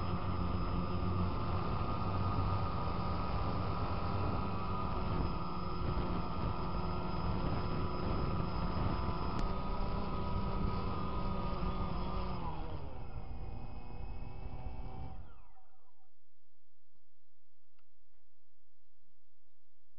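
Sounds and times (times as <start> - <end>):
drone propellers whining: 0.0 - 16.1.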